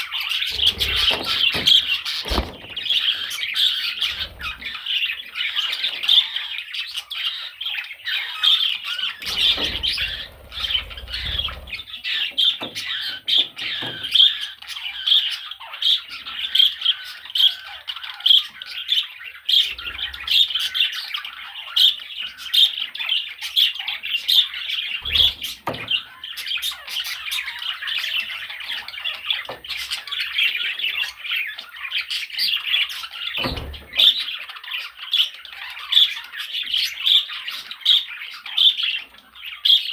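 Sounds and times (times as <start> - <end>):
budgerigar chatter: 0.0 - 39.9.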